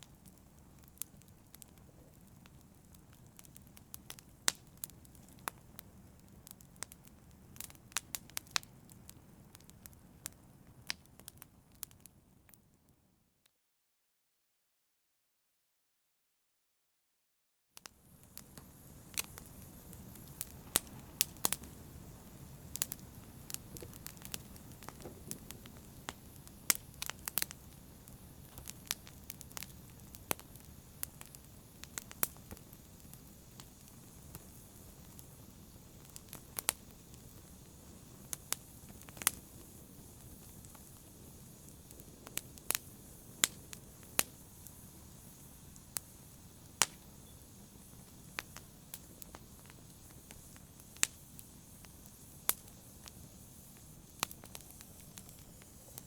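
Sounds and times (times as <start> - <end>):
fire crackling: 0.0 - 12.7, 17.8 - 56.0
low rumble of burning: 0.0 - 12.8, 17.8 - 56.0.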